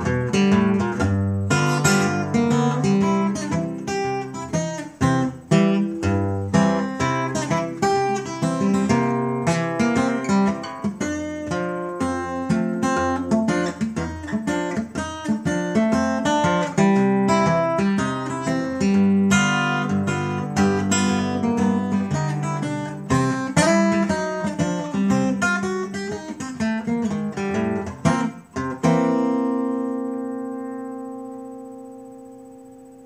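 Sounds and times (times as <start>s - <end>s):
fingerpicked acoustic guitar: 0.0s - 33.0s.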